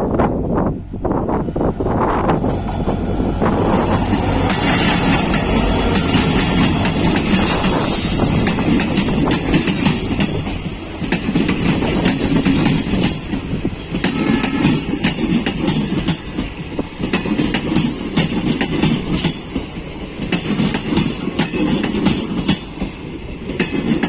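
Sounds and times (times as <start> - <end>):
train rumbling past: 0.0 - 24.0
wheels clattering over rail joints: 1.5 - 24.0.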